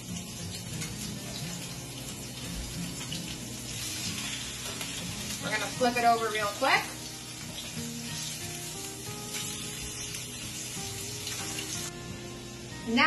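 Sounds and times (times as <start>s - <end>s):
fish sizzling in oil: 0.0s - 13.0s
soft background music: 0.0s - 13.0s.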